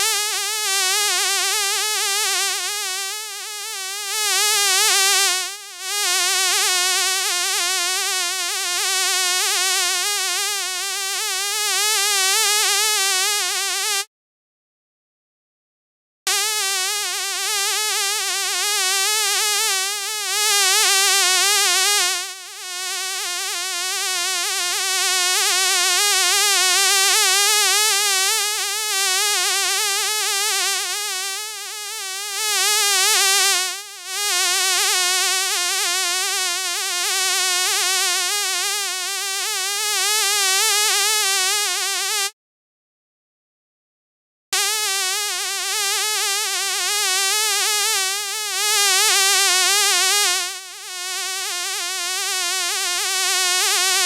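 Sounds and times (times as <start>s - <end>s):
fly buzzing: 0.0s - 14.0s, 16.3s - 25.8s, 26.4s - 42.3s, 44.6s - 54.0s.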